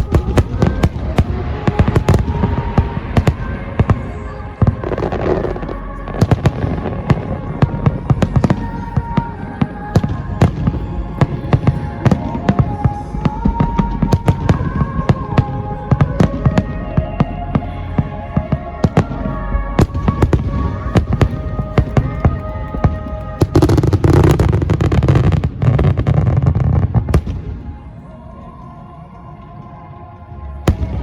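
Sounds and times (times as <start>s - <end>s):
fireworks bangs and crackles: 0.0s - 17.2s, 17.9s - 28.0s, 30.6s - 31.0s
music playing: 0.0s - 31.0s.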